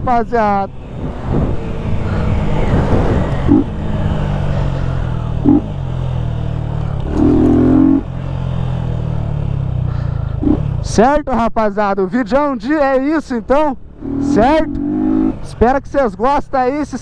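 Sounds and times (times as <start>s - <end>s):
motorcycle engine running: 0.0s - 11.2s, 13.6s - 17.0s.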